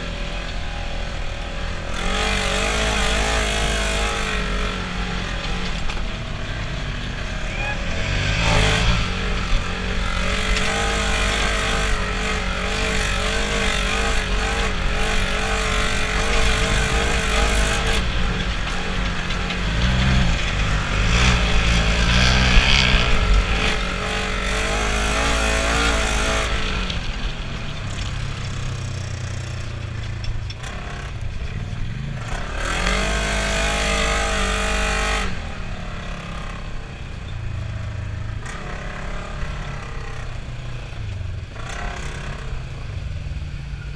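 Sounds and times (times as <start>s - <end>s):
off-road vehicle engine running: 0.0s - 43.9s.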